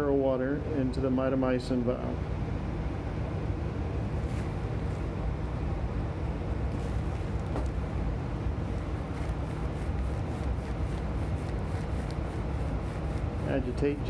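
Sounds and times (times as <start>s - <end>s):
blower hum and rushing air: 0.0s - 14.0s.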